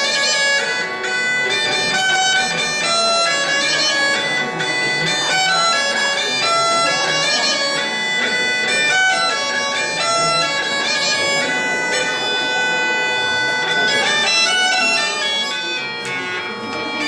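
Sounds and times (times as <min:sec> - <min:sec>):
bagpipe melody over drone: 0:00.0 - 0:17.0.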